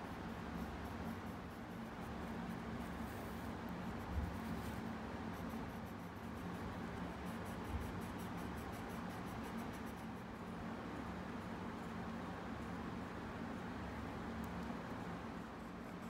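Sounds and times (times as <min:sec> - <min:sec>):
steady low hum: 0:00.0 - 0:16.0
pencil scratching on paper: 0:00.2 - 0:12.8, 0:14.9 - 0:16.0.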